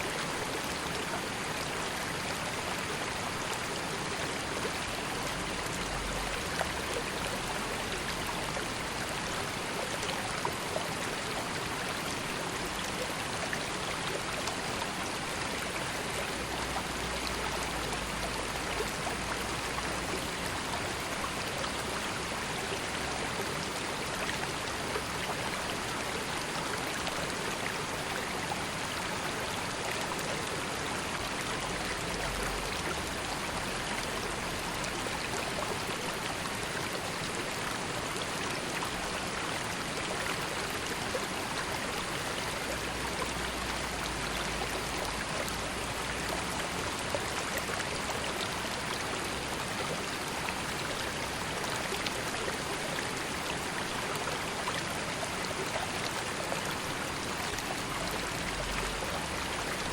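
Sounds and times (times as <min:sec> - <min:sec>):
river water flowing over stones: 0:00.0 - 0:59.9.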